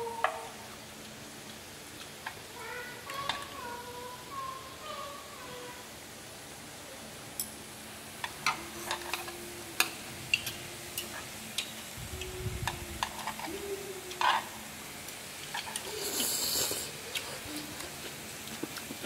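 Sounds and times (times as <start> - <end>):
food sizzling on pan: 0.0 - 19.0.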